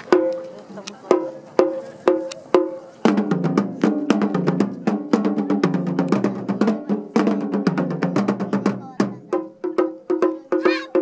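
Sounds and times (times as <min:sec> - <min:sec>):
fast dense drumming: 0:01.1 - 0:11.0.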